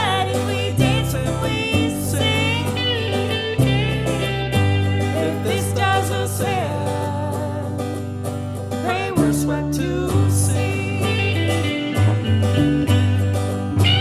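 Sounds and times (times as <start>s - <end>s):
country band with singing: 0.0s - 12.3s.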